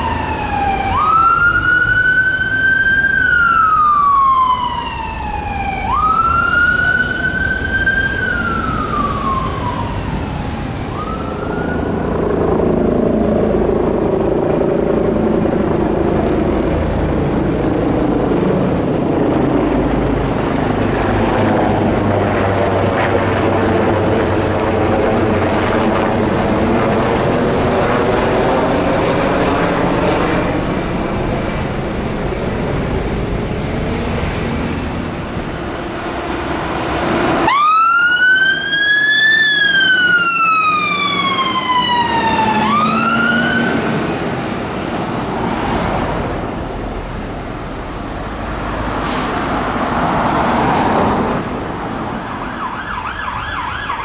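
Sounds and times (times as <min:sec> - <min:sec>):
fire engine siren wailing: 0:00.0 - 0:54.0
helicopter flying overhead: 0:00.0 - 0:54.0.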